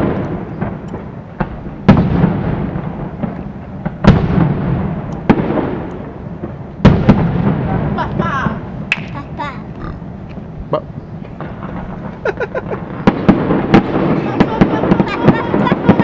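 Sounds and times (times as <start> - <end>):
smaller firework cracks: 0.0 - 10.5, 11.2 - 16.0
firework booms: 0.0 - 16.0.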